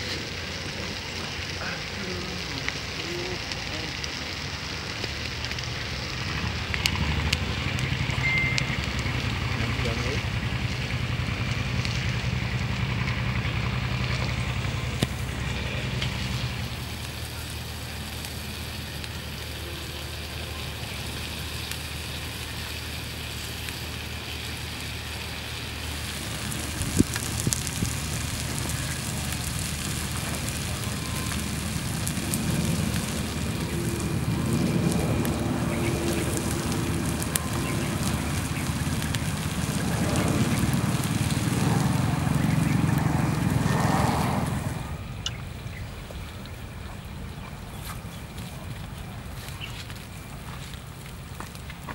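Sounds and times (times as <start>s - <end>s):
fish sizzling on hot stone: 0.0s - 51.9s
wood fire crackling: 0.0s - 51.9s.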